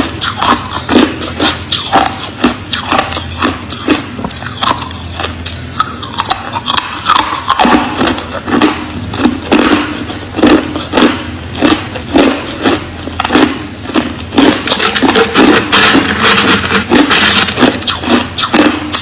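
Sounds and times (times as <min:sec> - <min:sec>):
chewing crushed ice: 0:00.0 - 0:19.0.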